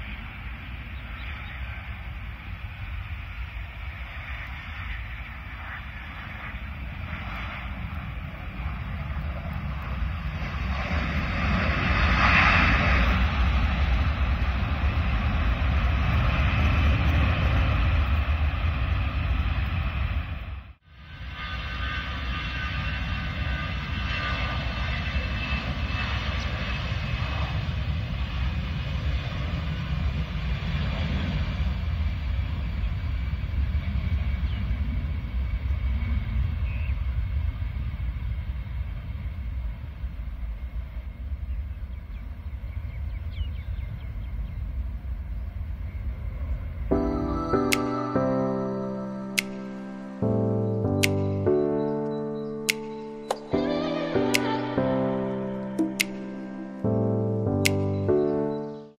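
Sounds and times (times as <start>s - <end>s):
jet engines rumble and whine: 0.0s - 58.9s.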